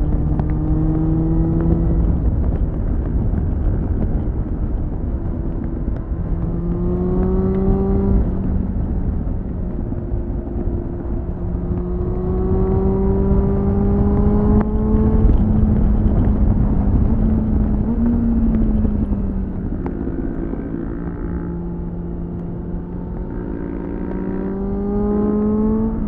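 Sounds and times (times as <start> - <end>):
heavy wind rush: 0.0 - 26.0
motorcycle engine accelerating: 0.0 - 26.0.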